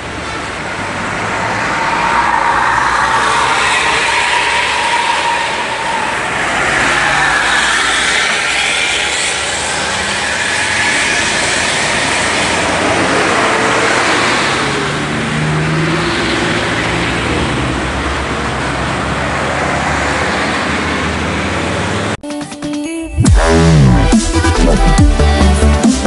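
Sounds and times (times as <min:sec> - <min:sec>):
heavy road traffic passing: 0:00.0 - 0:22.2.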